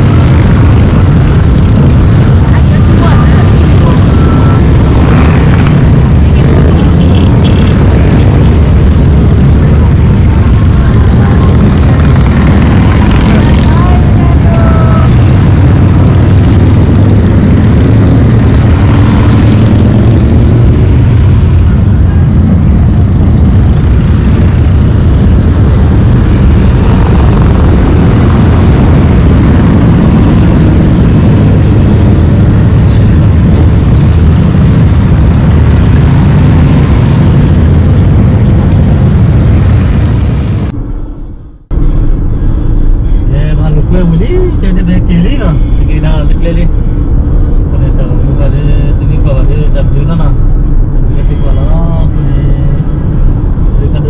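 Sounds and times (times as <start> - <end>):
vehicle rumble in motion: 0.0 - 54.0.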